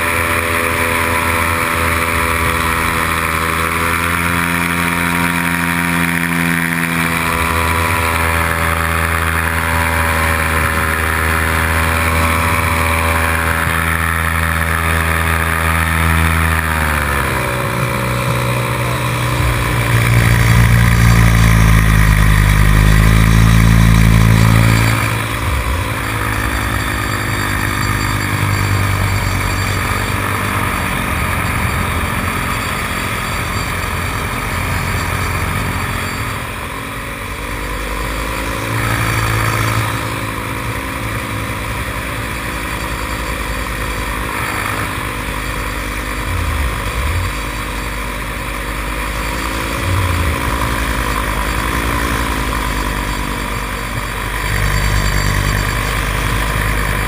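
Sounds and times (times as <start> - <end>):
paramotor engine and propeller: 0.0 - 57.0.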